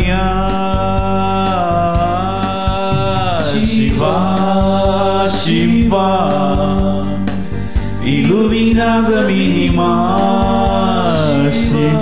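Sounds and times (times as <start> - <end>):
instrumental accompaniment with beat: 0.0 - 12.0
person singing devotional song: 0.0 - 12.0.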